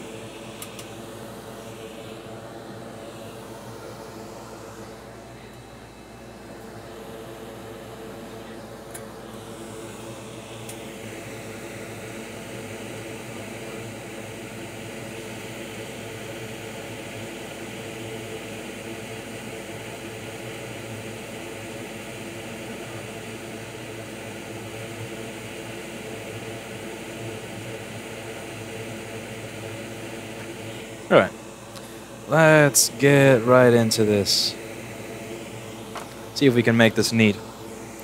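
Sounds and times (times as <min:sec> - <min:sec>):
fan whir: 0:00.0 - 0:38.0.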